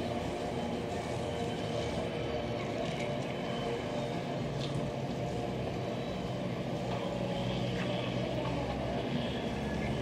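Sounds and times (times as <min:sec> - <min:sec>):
low drone: 0:00.0 - 0:10.0.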